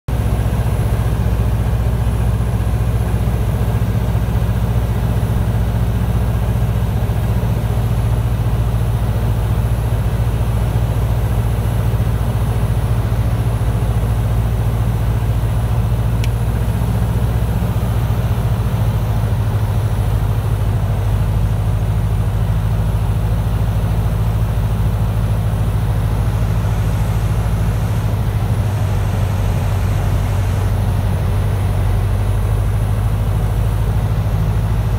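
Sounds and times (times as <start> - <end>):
propeller aircraft engine droning: 0.1 - 34.9.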